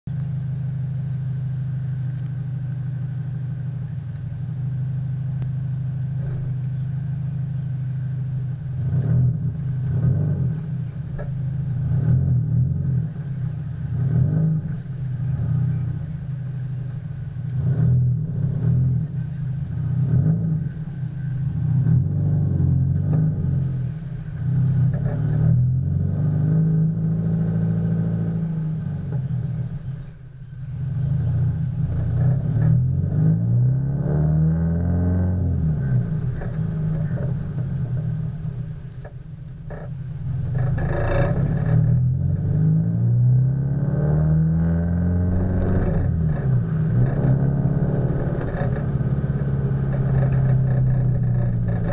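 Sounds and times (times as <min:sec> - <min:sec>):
car engine revving: 0:00.3 - 0:51.9.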